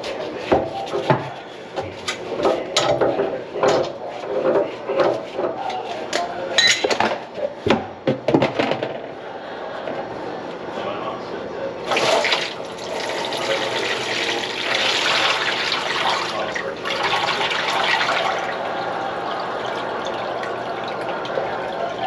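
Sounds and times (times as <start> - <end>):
objects clattering at kitchen sink: 0.0 - 9.2, 11.9 - 22.0.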